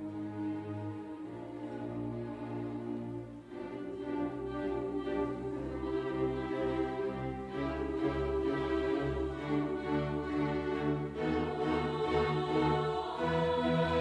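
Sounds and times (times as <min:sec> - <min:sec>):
bowed strings long held notes: 0:00.0 - 0:14.0
orchestra playing slow classical music: 0:00.0 - 0:14.0.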